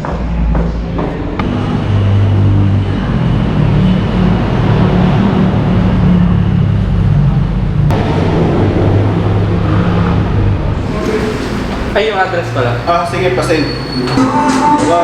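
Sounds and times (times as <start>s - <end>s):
street traffic: 0.0s - 15.0s
vehicle engine running: 0.9s - 14.9s.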